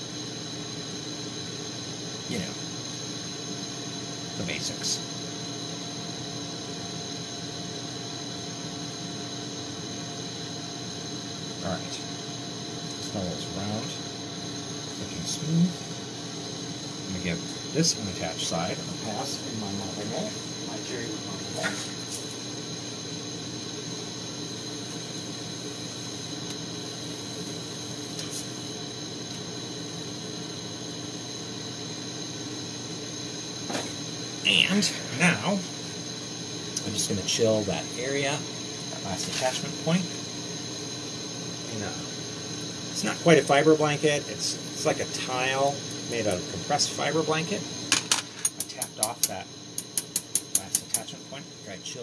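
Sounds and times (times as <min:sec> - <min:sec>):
torch flame hissing: 0:00.0 - 0:52.0.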